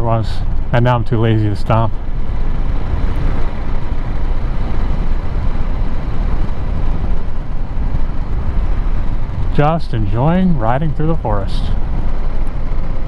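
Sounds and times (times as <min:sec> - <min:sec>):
motorcycle engine: 0:00.0 - 0:13.0
wind rushing: 0:00.0 - 0:13.0.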